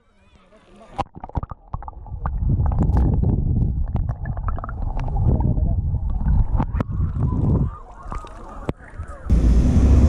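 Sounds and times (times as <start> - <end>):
muffled underwater river rumbling: 1.1 - 10.0.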